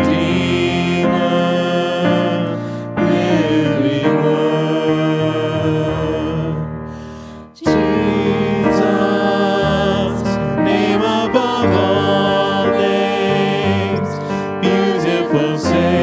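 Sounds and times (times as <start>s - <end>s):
worship music with singing: 0.0s - 16.0s.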